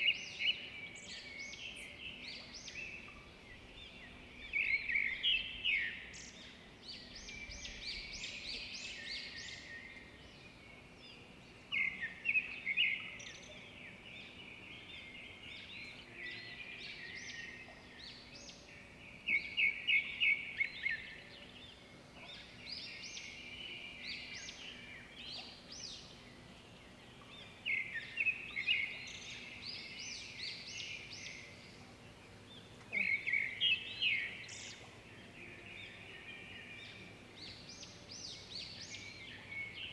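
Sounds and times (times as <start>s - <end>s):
bird chirping: 0.0s - 39.9s
outdoor background noise: 0.0s - 39.9s.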